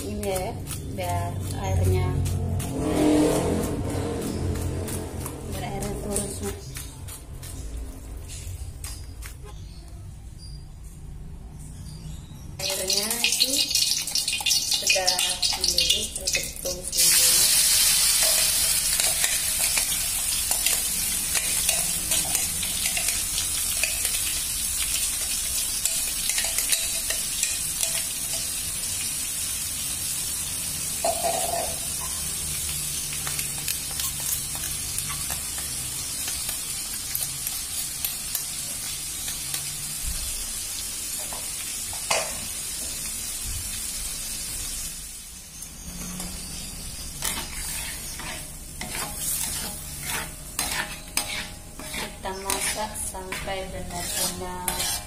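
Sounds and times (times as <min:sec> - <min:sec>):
paste sizzling in hot oil: 0:00.0 - 0:07.7, 0:12.6 - 0:55.0.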